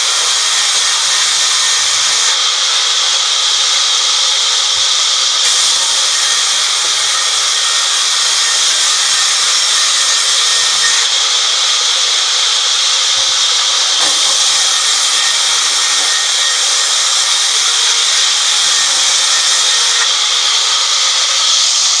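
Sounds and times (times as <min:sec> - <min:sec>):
band saw cutting wood: 0:00.0 - 0:22.0.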